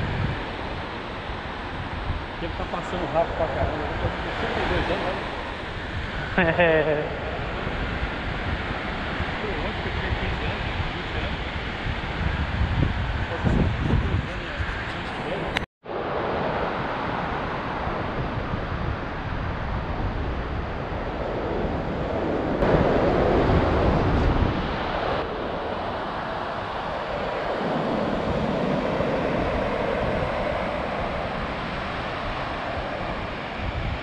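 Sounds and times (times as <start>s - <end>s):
surf washing on a sandy beach: 0.0s - 34.0s
wind buffeting the microphone: 0.0s - 34.0s.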